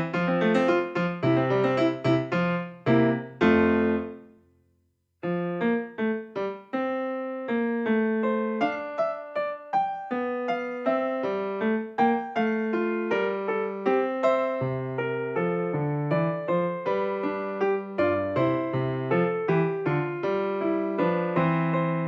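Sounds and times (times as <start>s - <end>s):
solo piano music: 0.0s - 4.6s, 5.2s - 22.0s.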